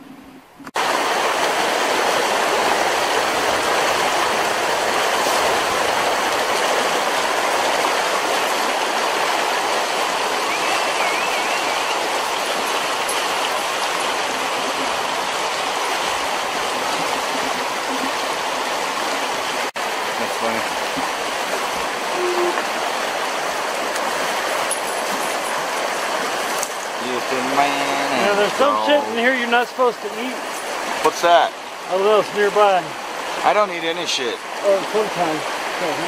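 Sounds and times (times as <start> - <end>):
water rushing over rocks: 0.8 - 36.0.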